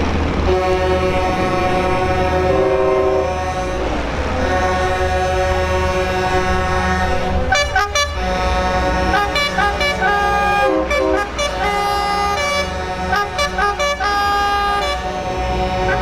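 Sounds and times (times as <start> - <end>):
truck engine rumbling: 0.0 - 16.0
truck air horns blasting: 0.3 - 16.0.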